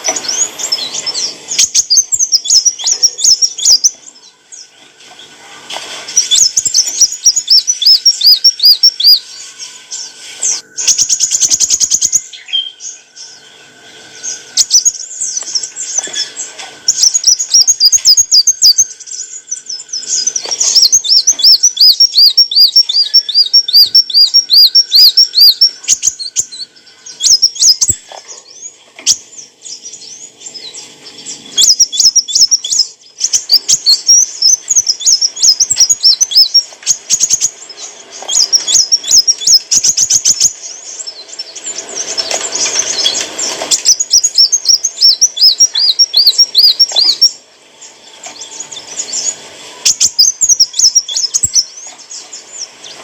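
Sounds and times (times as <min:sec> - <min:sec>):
sunbird chattering trills: 0:00.0 - 0:05.4, 0:06.0 - 0:53.0.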